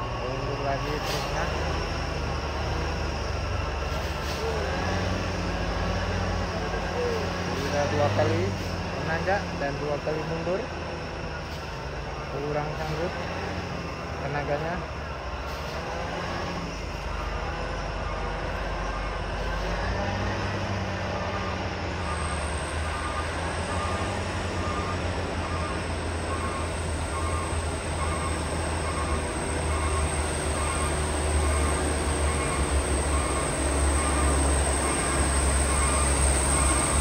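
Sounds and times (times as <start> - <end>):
diesel truck engine labouring: 0.0 - 37.0.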